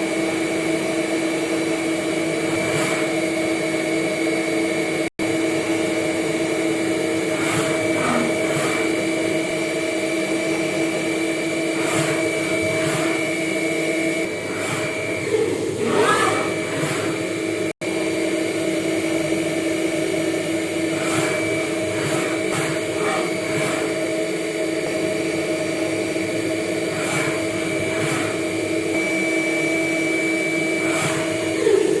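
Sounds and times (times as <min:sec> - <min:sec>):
milling machine whine: 0:00.0 - 0:32.0.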